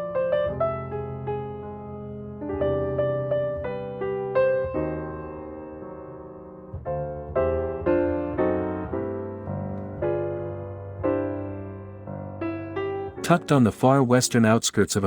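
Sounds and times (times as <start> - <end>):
gentle piano music: 0.0 - 14.8.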